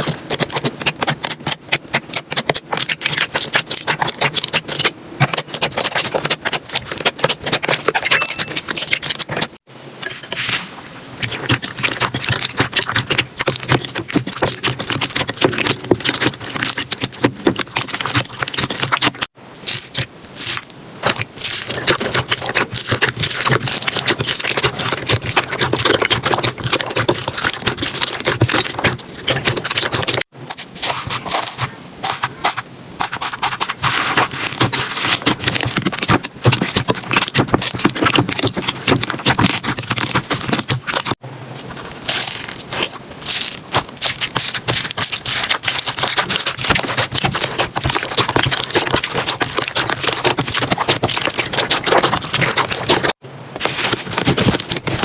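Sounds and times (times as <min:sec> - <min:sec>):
slime squishing and crackling: 0:00.0 - 0:09.6, 0:11.2 - 0:55.0.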